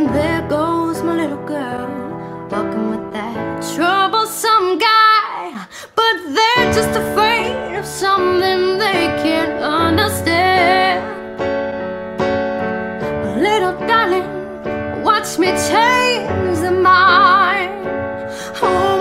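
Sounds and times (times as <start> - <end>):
woman singing: 0.0 - 11.5, 13.0 - 19.0
piano: 0.0 - 19.0.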